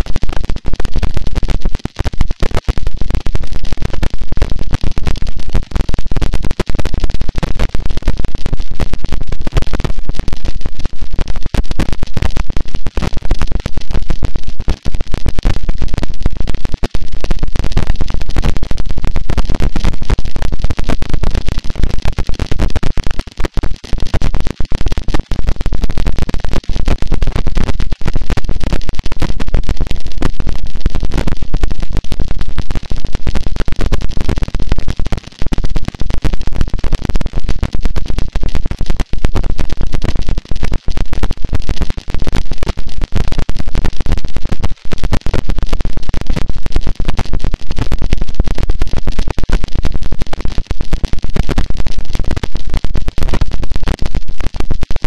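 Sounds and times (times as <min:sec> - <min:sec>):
loud distorted static noise: 0:00.0 - 0:55.0.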